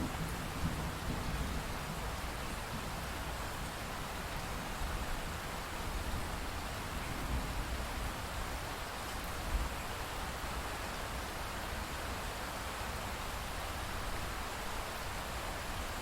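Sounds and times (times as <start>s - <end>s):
steady rainfall hiss: 0.0s - 16.0s.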